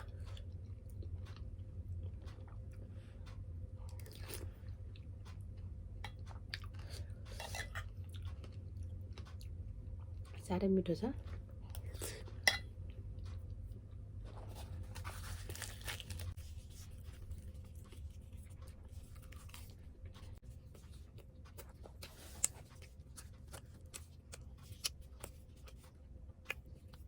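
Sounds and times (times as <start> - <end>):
person chewing crunchy bread: 0.0 - 10.4, 11.2 - 27.0
low steady hum: 0.0 - 27.0.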